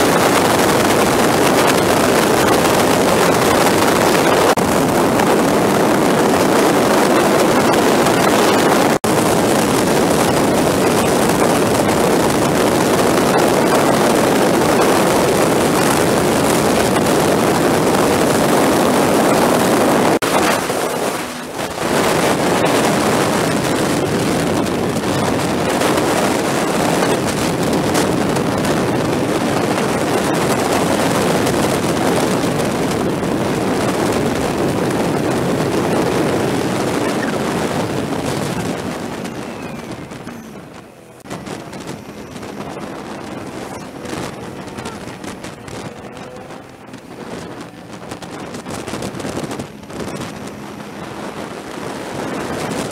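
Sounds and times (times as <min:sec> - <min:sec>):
motorcycle engine at speed: 0:00.0 - 0:52.9
wind rushing: 0:00.0 - 0:52.9.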